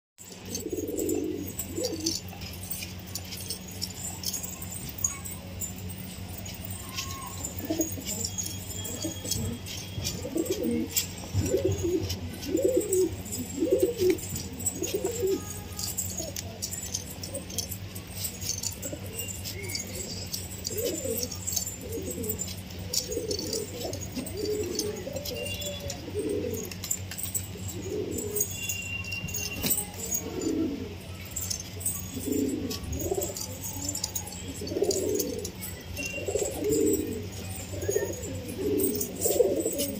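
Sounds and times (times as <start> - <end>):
beaks pecking concrete: 0.3 - 39.9
pigeons cooing: 0.3 - 39.9.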